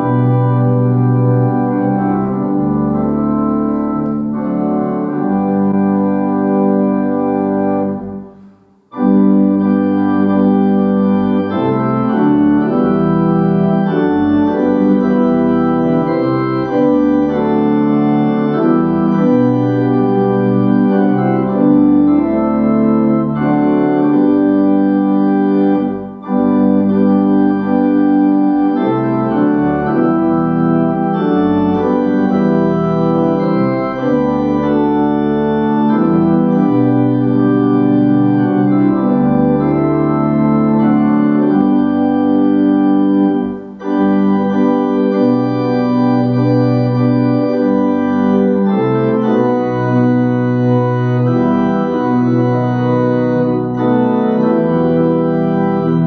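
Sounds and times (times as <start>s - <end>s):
organ playing a hymn: 0.0s - 56.0s.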